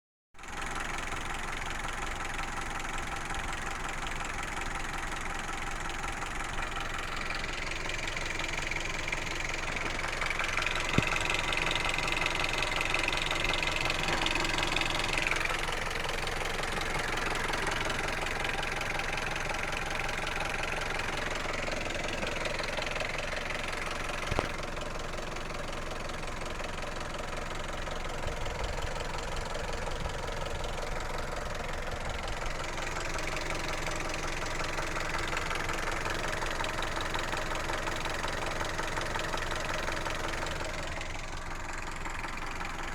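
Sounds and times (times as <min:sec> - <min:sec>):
car engine knocking: 0:00.4 - 0:42.9.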